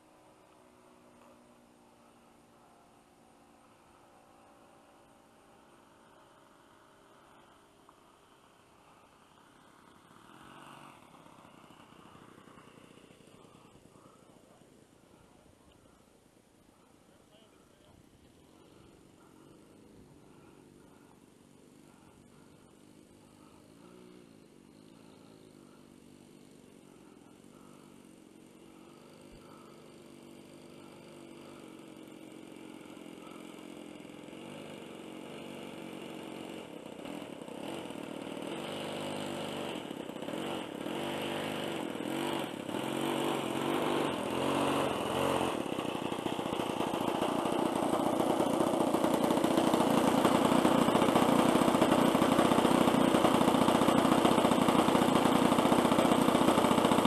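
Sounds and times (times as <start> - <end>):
model plane engine: 0.0 - 57.0.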